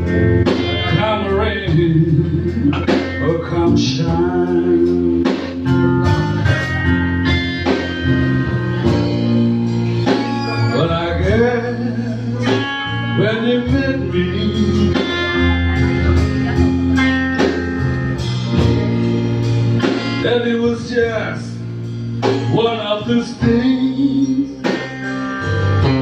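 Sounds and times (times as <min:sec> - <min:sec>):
bass line: 0:00.0 - 0:26.0
drums: 0:00.0 - 0:26.0
electric guitar lead: 0:00.0 - 0:26.0.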